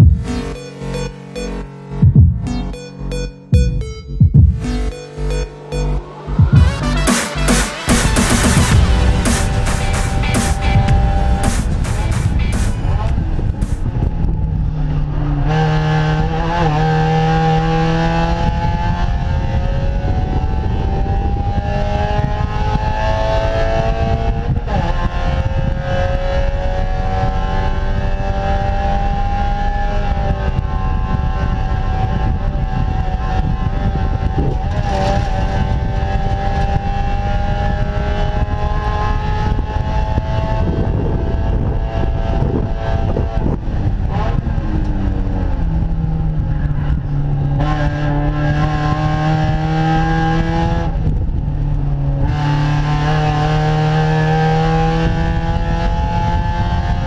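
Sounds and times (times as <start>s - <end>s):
race car engine revving: 4.5s - 57.0s
wind and road noise: 8.6s - 57.0s.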